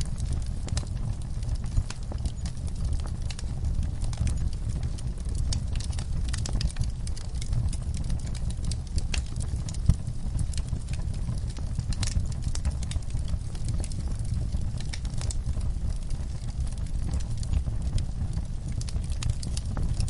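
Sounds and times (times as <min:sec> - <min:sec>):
burning logs crackling and popping: 0:00.0 - 0:20.0
low rumble of flames: 0:00.0 - 0:20.0.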